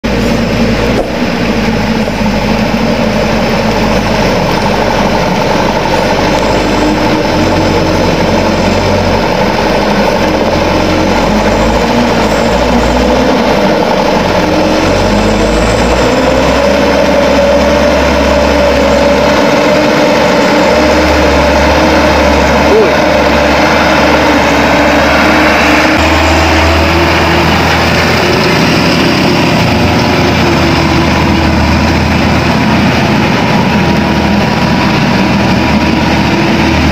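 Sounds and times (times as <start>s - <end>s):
diesel truck engine running: 0.0s - 36.9s.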